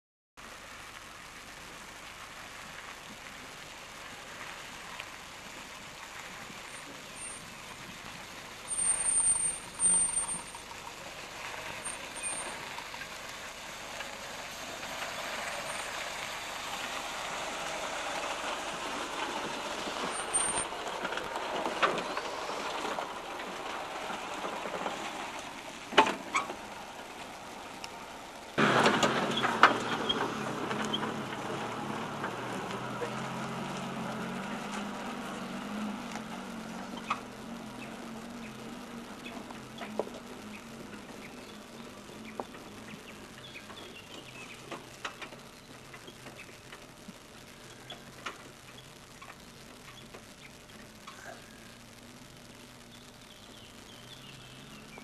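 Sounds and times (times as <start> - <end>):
vehicle driving on rough dirt track: 0.4 - 55.0.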